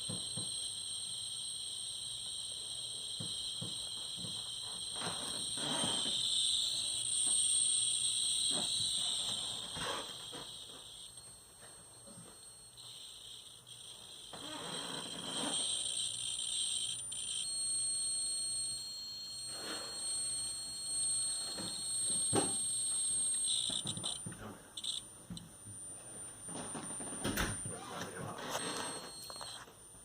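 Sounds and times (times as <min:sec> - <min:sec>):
freezer high-pitched whining: 0:00.0 - 0:30.0.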